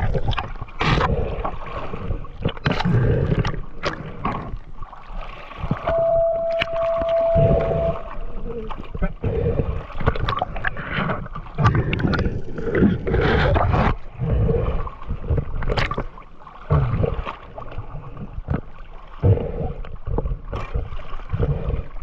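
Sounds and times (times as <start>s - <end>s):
seawater sloshing and splashing: 0.0s - 22.0s.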